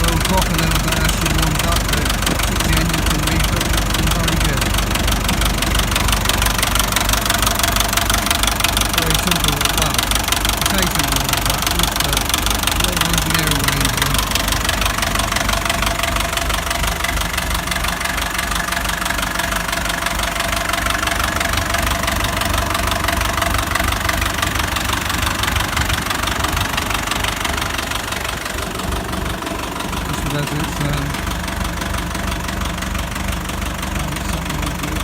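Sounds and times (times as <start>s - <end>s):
tractor diesel engine idling: 0.0s - 35.0s.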